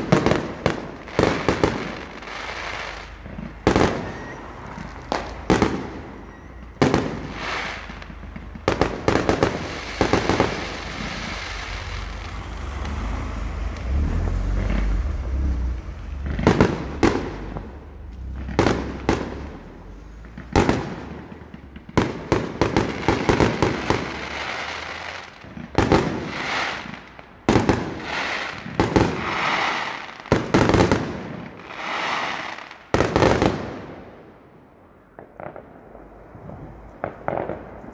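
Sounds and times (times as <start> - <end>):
fireworks bangs: 0.0 - 37.9
fireworks crackling and rumble: 0.0 - 37.9.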